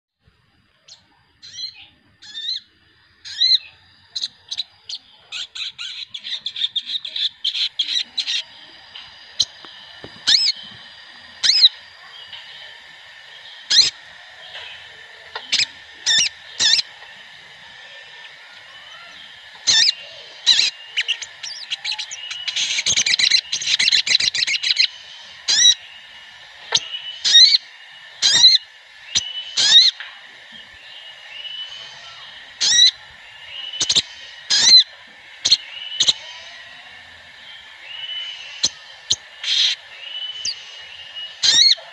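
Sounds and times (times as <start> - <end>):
faint steady high whistle: 0.2 - 41.9
birds chirping and trilling: 0.5 - 41.9.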